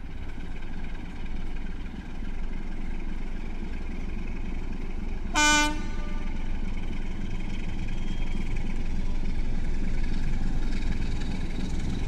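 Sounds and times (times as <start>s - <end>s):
locomotive diesel engine droning: 0.0s - 12.0s.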